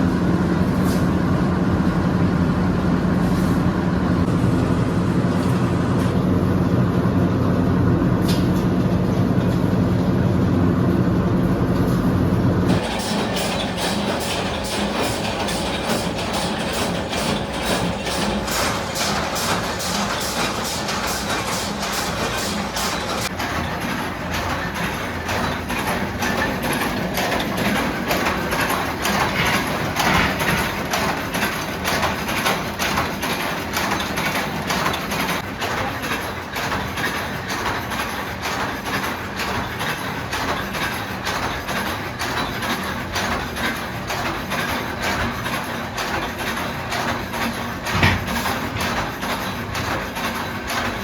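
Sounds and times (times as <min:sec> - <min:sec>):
machinery clattering: 0:04.1 - 0:51.0.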